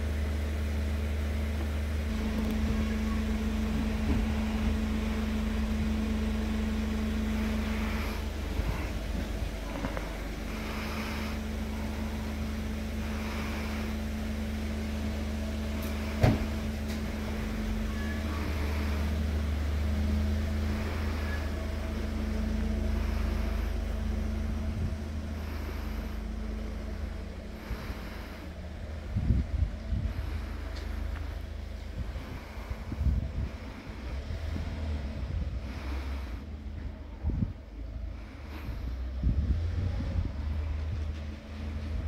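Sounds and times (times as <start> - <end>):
constant tone: 0.0 - 39.0
low mechanical hum: 0.0 - 42.0.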